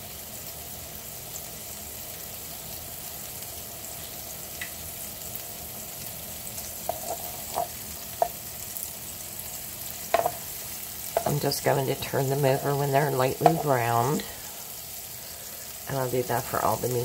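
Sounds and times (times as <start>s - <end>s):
meatballs sizzling in a frying pan: 0.0s - 17.0s.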